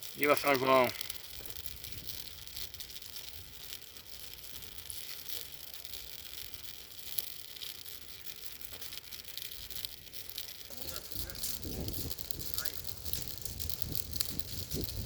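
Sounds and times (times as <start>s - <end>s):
bonfire crackling and hissing: 0.0s - 15.0s.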